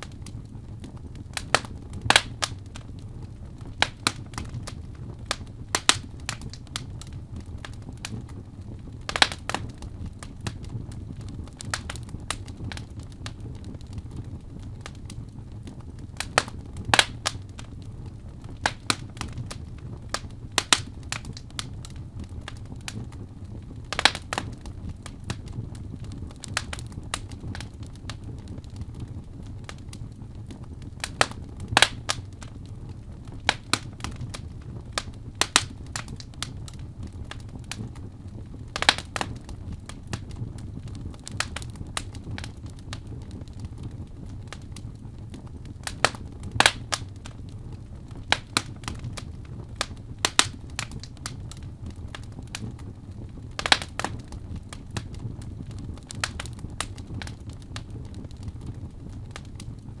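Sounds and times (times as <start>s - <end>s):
low rumble of flames: 0.0s - 60.0s
wood fire crackling pops: 0.0s - 60.0s.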